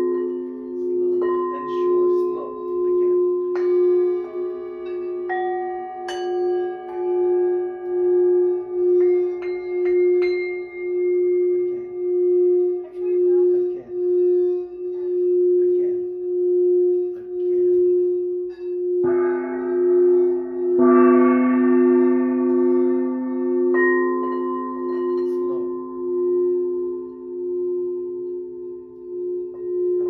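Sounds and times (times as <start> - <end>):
singing bowl steady tone: 0.0 - 30.0
singing bowls struck ringing: 0.0 - 30.0.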